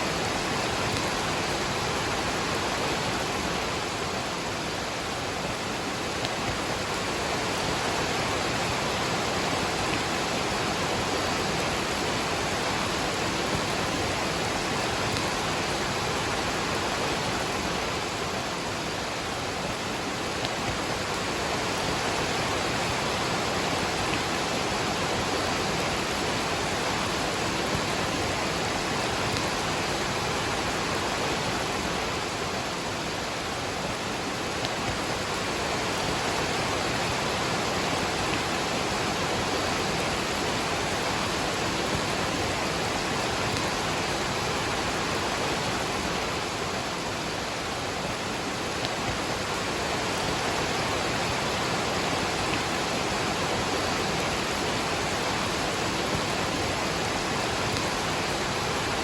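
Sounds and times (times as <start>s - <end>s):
rush of falling water: 0.0s - 59.0s.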